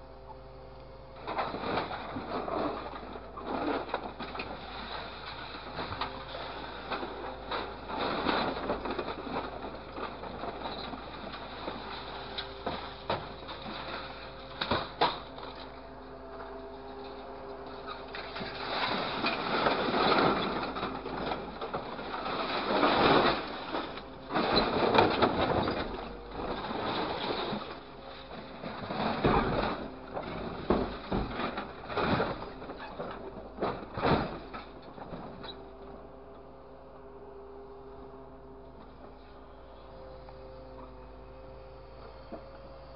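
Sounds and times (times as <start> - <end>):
hydraulics humming: 0.0 - 42.9
scrap metal crunching and rattling: 1.2 - 36.3.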